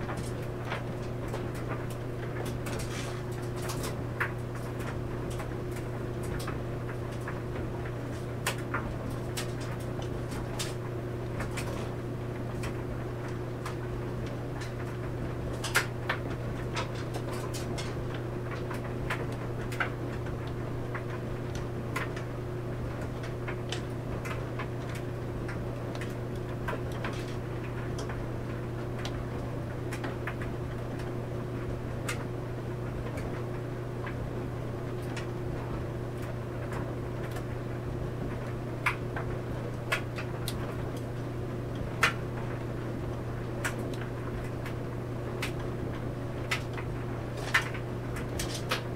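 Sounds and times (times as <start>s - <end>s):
clothes dryer humming: 0.0s - 48.9s.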